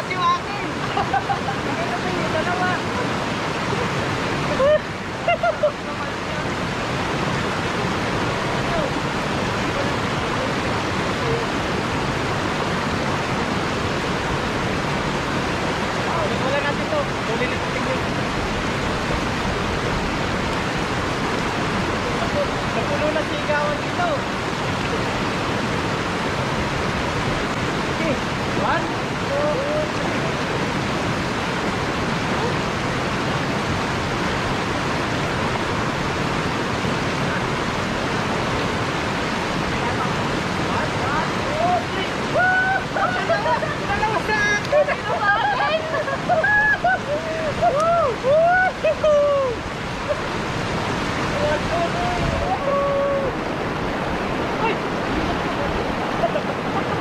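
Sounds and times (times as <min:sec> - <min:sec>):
water rushing over boulders: 0:00.0 - 0:57.0.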